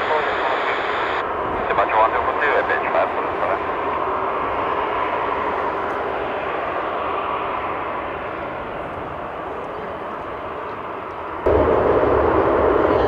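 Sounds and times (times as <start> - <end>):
jet engines at taxi power: 0.0 - 13.0.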